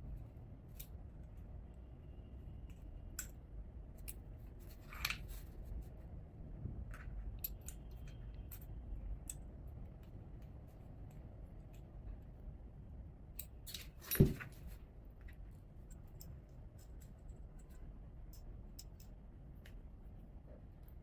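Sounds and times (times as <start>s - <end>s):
light clicks of small parts: 2.6s - 6.1s, 6.8s - 12.5s, 13.3s - 21.0s.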